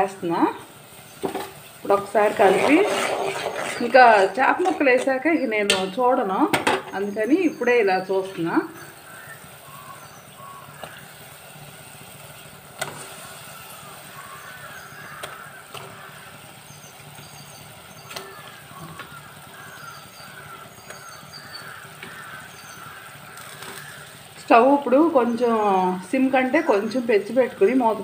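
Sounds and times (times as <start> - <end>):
gravy bubbling in a pot: 0.0 - 5.6, 7.6 - 27.4.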